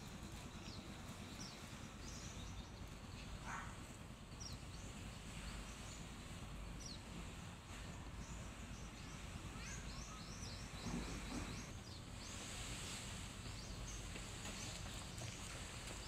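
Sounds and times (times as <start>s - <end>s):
small birds chirping: 0.0s - 16.0s
steady low outdoor rumble: 0.0s - 16.0s.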